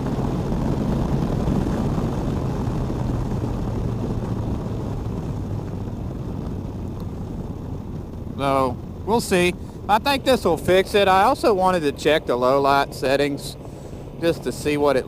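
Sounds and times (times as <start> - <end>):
motorcycle engine cruising: 0.0 - 15.0
road noise: 0.0 - 15.0
wind noise: 0.0 - 15.0.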